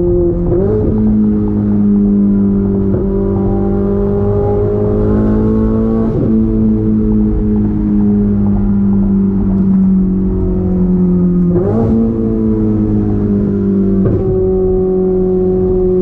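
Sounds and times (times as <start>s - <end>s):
car engine decelerating: 0.0s - 16.0s
engine downshifts: 0.0s - 16.0s.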